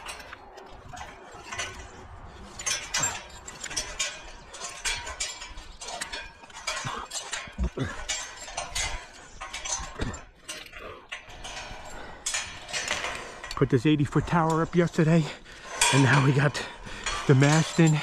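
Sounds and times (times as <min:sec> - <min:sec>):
metallic clinks on steel tower: 0:00.0 - 0:18.0.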